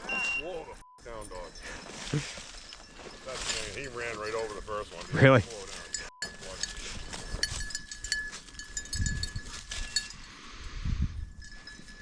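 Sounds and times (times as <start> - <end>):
small bell jingling: 0.1 - 12.0.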